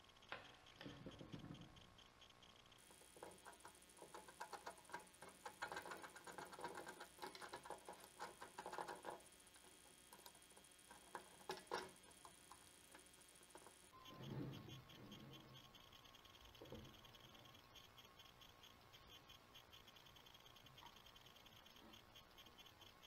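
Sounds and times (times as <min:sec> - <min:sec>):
plastic parts clicking and tapping: 0:00.1 - 0:23.0.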